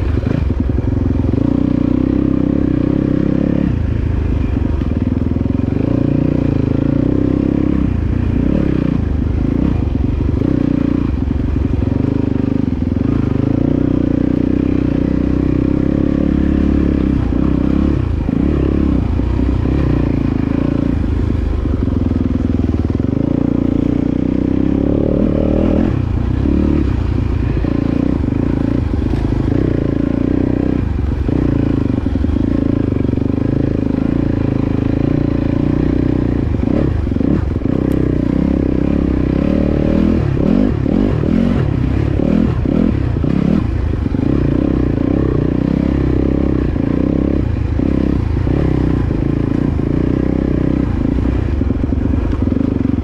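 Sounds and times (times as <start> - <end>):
dirt bike engine revving: 5.4 - 53.0.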